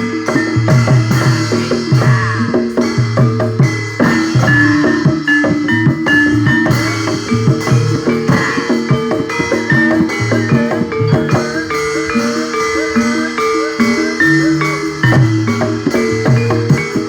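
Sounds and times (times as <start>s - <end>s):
beaten drums: 0.0s - 17.0s
metallophones playing melody: 0.0s - 17.0s.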